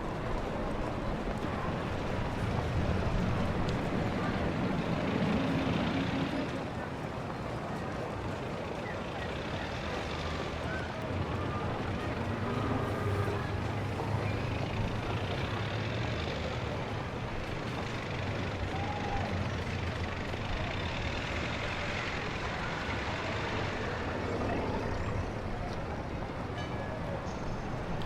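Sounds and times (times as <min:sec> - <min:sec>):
rumble of motor traffic: 0:00.0 - 0:28.0.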